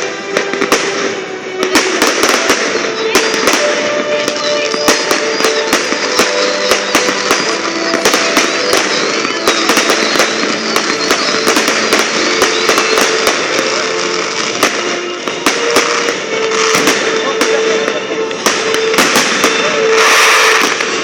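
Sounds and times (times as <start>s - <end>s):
fireworks bangs and pops: 0.0s - 21.0s
fireworks crackling: 0.0s - 21.0s.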